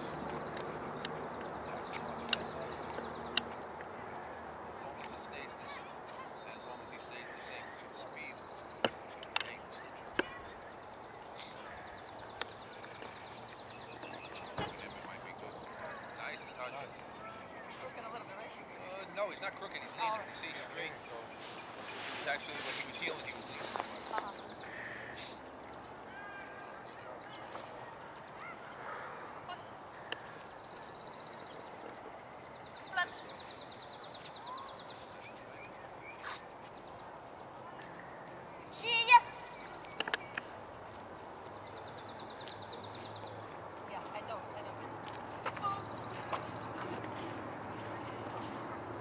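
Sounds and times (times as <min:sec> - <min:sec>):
bird chirp: 0:00.0 - 0:49.0.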